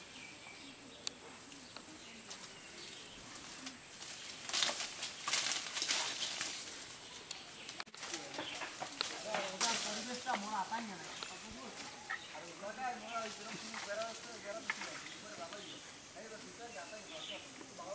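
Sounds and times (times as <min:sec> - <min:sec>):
leaves and twigs rustling: 0:00.0 - 0:17.9.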